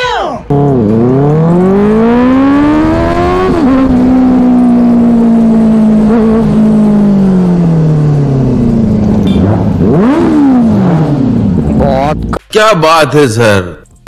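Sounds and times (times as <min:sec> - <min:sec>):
motorcycle engine revving: 0:00.5 - 0:12.4.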